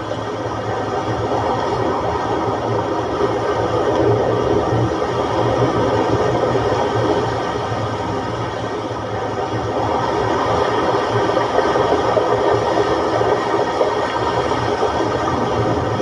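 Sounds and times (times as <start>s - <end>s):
rough sea rushing: 0.0s - 16.0s.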